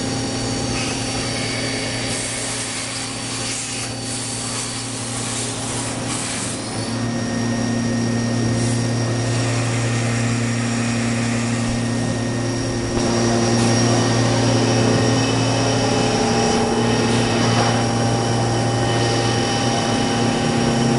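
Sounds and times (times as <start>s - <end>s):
machine humming: 0.0s - 20.9s.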